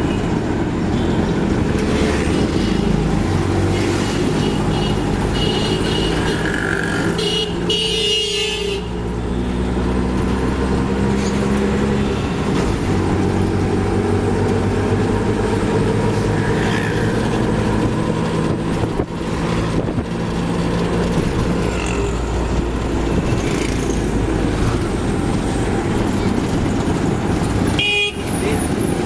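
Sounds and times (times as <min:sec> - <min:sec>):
road noise: 0:00.0 - 0:29.0.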